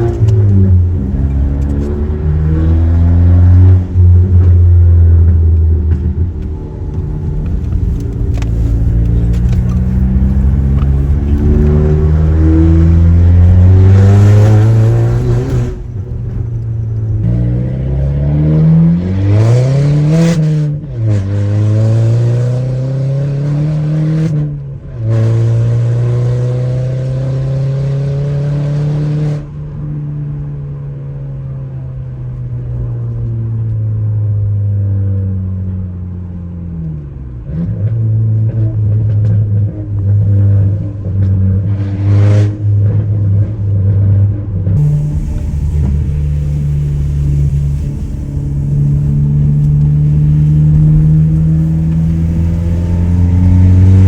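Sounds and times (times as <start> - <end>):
car exhaust accelerating: 0.0 - 30.4, 37.1 - 54.0.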